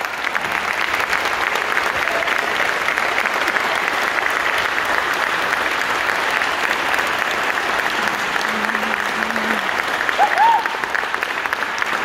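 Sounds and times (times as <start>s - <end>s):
congregation clapping: 0.0s - 12.0s.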